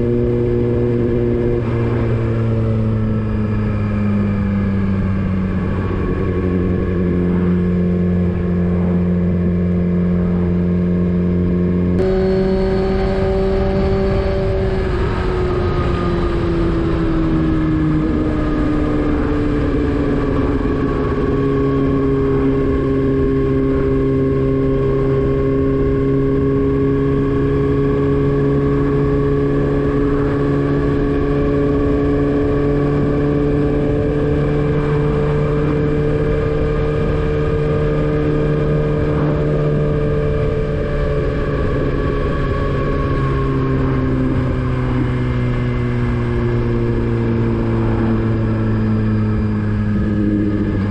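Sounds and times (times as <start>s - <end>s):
motorcycle engine cruising: 0.0s - 50.9s.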